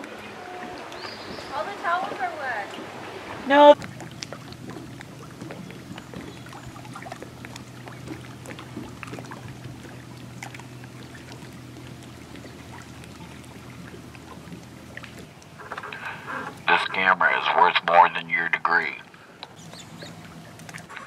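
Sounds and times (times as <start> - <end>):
lake water lapping: 0.0 - 17.4, 18.1 - 21.0
low hum: 0.0 - 21.0.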